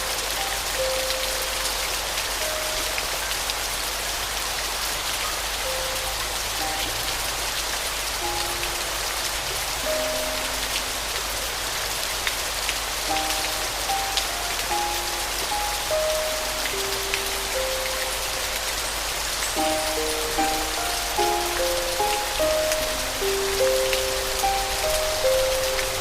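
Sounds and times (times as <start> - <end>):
soft piano notes: 0.0 - 4.5, 5.1 - 26.0
steady rain: 0.0 - 26.0
raindrop ticks: 5.2 - 26.0.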